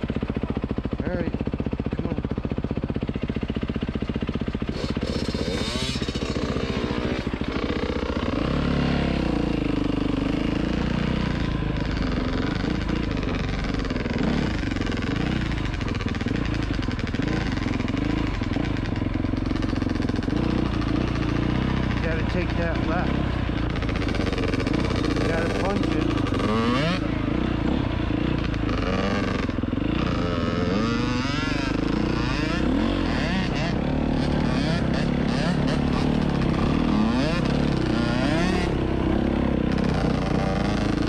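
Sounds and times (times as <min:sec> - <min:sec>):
dirt bike engine: 0:00.0 - 0:41.0.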